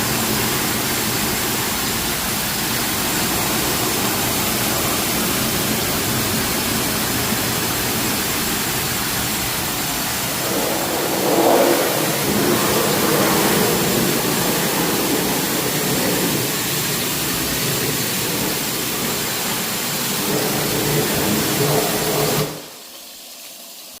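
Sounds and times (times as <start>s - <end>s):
pressure washer spraying water: 0.0s - 24.0s.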